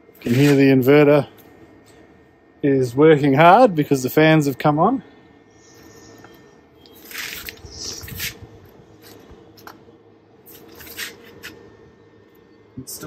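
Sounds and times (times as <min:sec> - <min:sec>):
inverter cooling fans running: 0:00.0 - 0:13.0.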